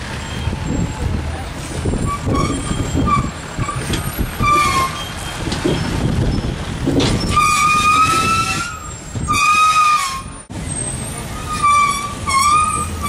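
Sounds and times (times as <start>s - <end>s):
low rumble of traffic engines: 0.0s - 13.0s.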